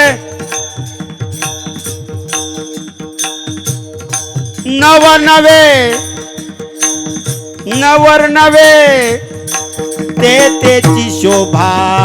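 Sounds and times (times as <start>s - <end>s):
drum strokes: 0.0s - 12.0s
small hand cymbals: 0.0s - 12.0s.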